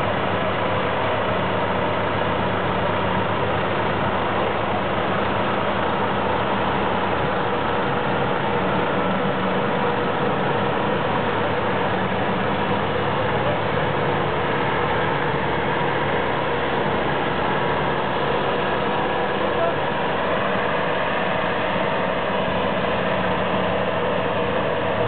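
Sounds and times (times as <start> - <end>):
heavy engine running: 0.0 - 25.0.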